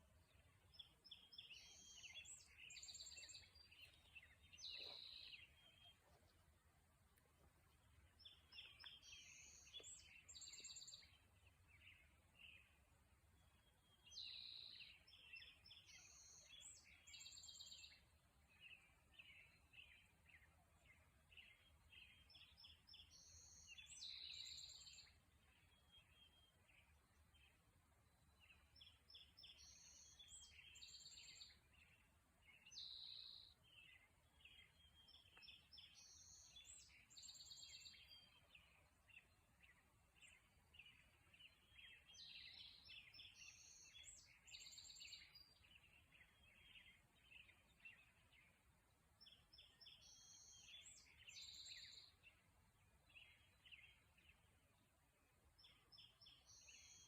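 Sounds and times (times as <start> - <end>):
bird song phrase: 0.0 - 57.0
songbirds chirping: 0.0 - 57.0.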